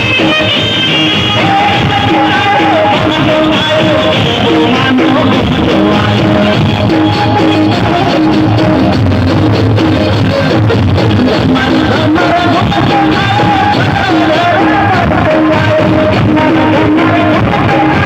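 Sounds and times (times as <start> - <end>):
loud music with held notes: 0.0 - 18.0.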